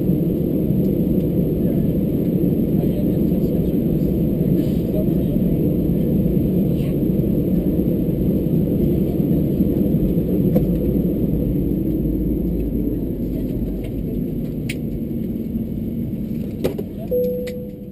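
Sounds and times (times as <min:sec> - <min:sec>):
low rumble of cabin ventilation: 0:00.0 - 0:17.9.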